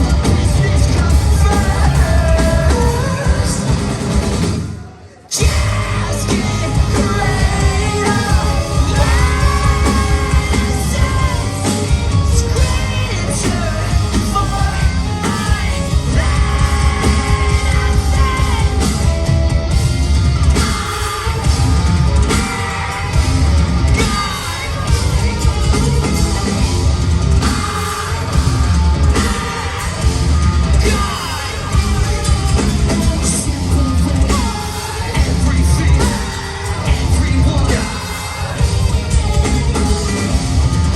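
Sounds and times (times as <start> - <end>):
rock band playing live: 0.0 - 40.9.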